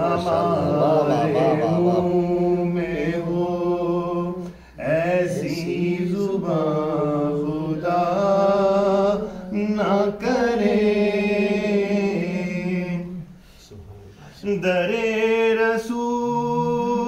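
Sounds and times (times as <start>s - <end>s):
man singing unaccompanied: 0.0s - 13.3s, 14.4s - 17.0s.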